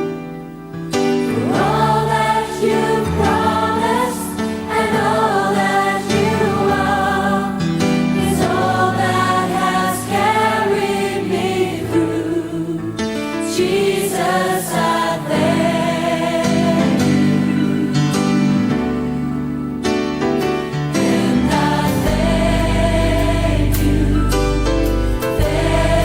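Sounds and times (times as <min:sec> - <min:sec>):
voices singing worship music: 0:01.0 - 0:19.4, 0:20.9 - 0:26.0.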